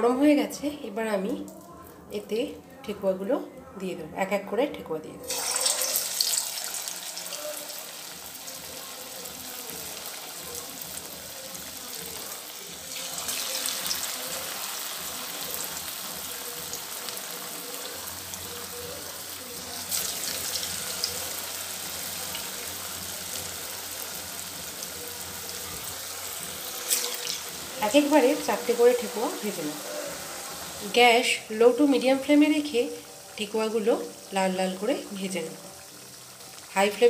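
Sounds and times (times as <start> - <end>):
dough sizzling in hot oil: 5.3 - 37.0.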